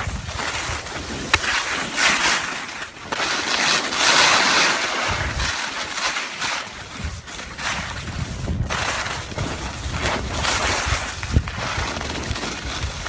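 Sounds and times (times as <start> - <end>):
wind rumbling on microphone: 0.0 - 2.5, 4.8 - 13.0
skis scraping over snow: 0.0 - 13.0.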